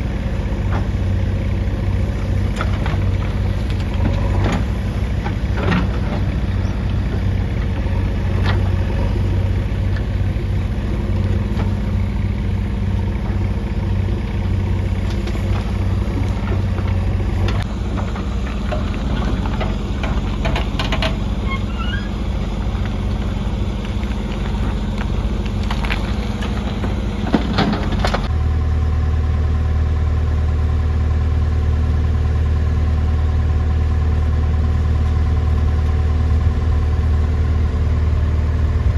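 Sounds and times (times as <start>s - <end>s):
diesel engine running: 0.0s - 38.9s
pump engine running: 0.0s - 38.9s.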